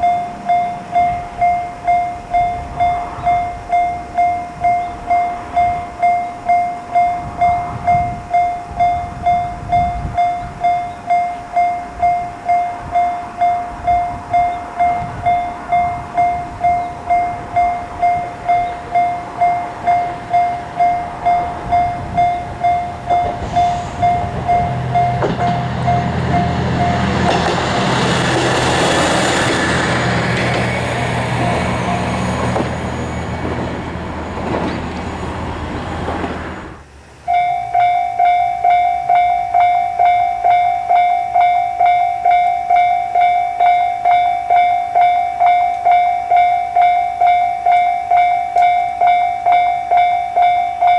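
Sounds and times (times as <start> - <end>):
diesel railcar passing: 0.0 - 50.9
level crossing warning bell: 0.0 - 50.9.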